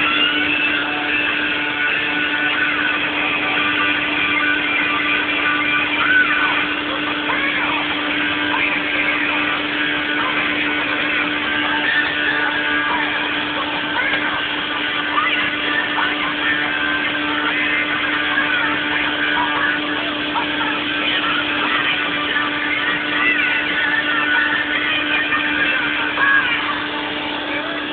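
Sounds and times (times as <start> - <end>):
combine harvester droning: 0.0 - 27.9.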